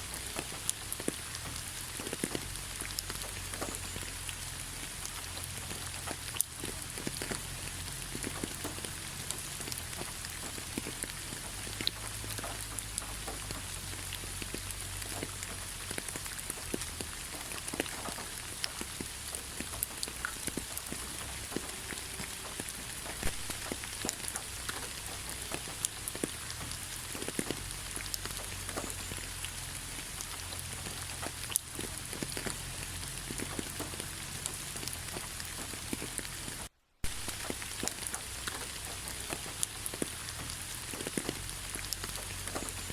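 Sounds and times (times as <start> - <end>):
raindrops ticking close by: 0.0 - 42.9
steady rain hiss: 0.0 - 42.9.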